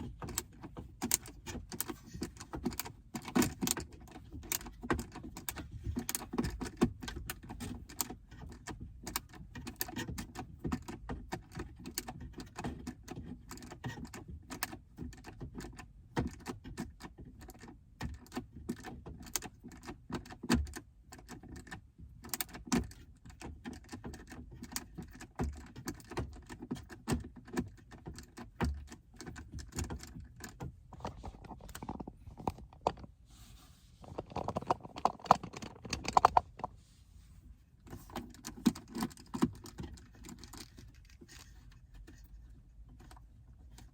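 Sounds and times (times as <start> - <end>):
plastic trim clicking and rattling: 0.0 - 33.2, 34.0 - 36.8, 37.8 - 43.9.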